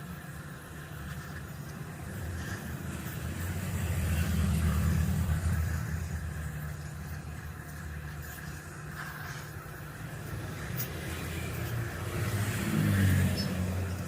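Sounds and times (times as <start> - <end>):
motor vehicle engine running: 0.1 - 14.0.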